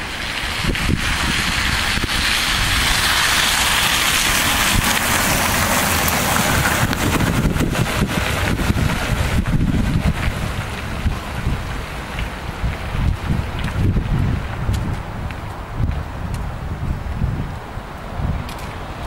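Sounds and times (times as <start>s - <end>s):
tyres hissing on wet street: 0.0s - 19.0s
wind rumbling on microphone: 0.0s - 19.0s.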